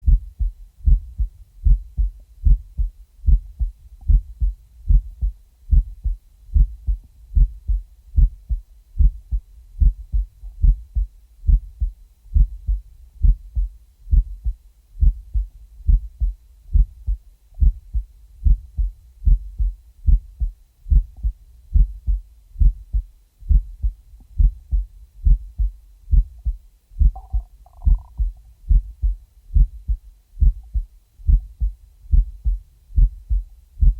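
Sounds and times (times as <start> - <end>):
heartbeat thumps: 0.0 - 33.9.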